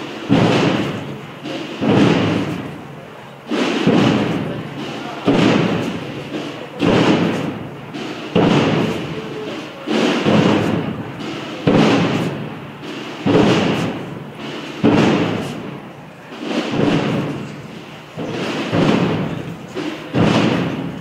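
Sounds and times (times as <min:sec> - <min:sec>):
massed procession drums beating: 0:00.0 - 0:21.0.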